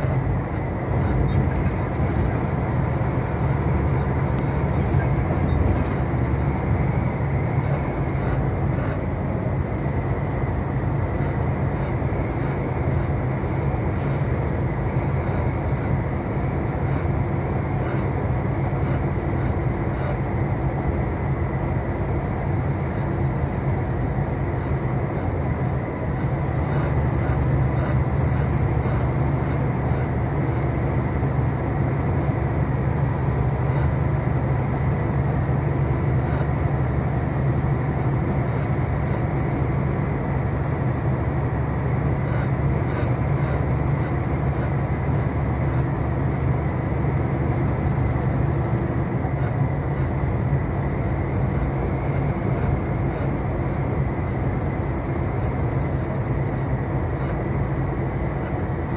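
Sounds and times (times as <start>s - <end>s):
truck cab cruising drone: 0.0s - 58.9s.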